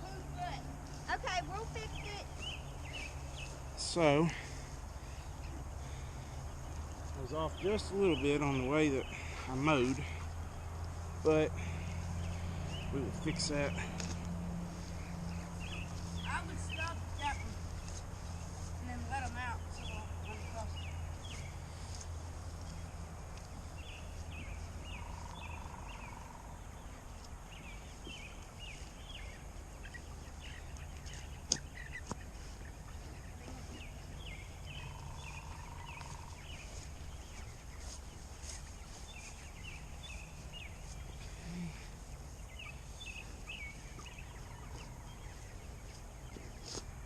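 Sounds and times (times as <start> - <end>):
chickens peeping and cheeping: 0.0 - 47.0
low outdoor background: 0.0 - 47.0.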